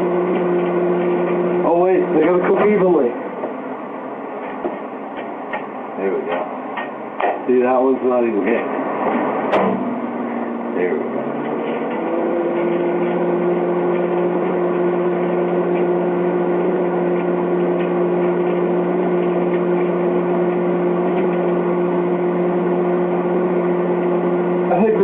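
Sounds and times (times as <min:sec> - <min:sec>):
microwave oven humming: 0:00.0 - 0:25.0.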